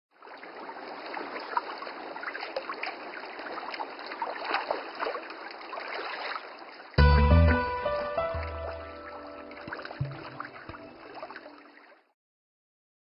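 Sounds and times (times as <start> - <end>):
water babbling and trickling: 0.1 - 12.2.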